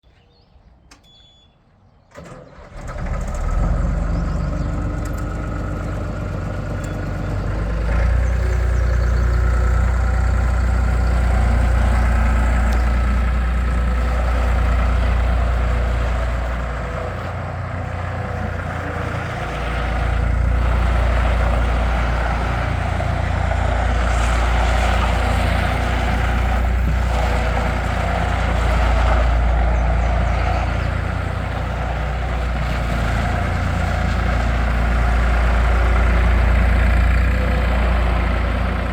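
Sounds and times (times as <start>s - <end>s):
loader diesel engine running: 2.2s - 38.9s.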